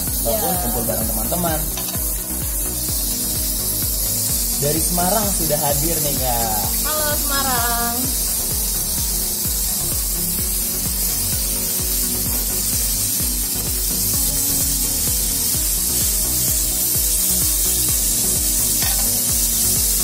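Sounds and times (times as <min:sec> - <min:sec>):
shrimp sizzling in grill pan: 0:00.0 - 0:20.0.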